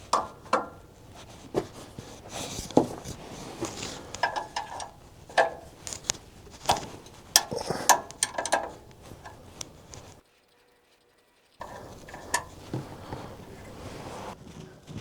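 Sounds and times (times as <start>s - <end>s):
metal tools clinking: 0.0s - 10.2s, 11.6s - 14.4s.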